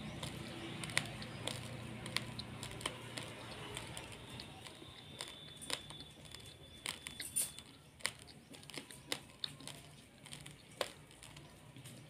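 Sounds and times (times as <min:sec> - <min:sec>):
rice grains crunching: 0:00.0 - 0:12.0.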